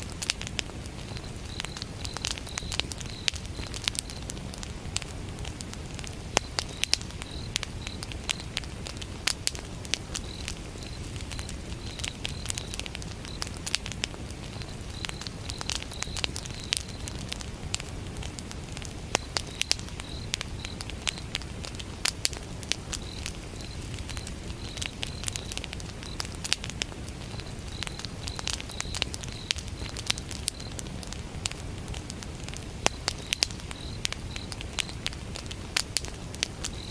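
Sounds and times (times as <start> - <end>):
cricket chirping: 0.0 - 32.1, 32.8 - 36.9
wood fire crackling: 0.0 - 36.9.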